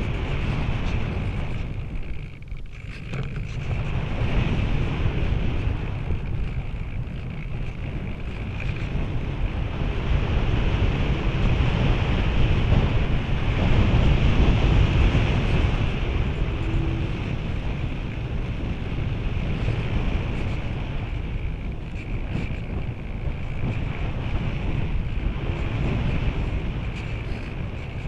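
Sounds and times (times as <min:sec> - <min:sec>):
rushing air buffeting microphone: 0:00.0 - 0:28.0.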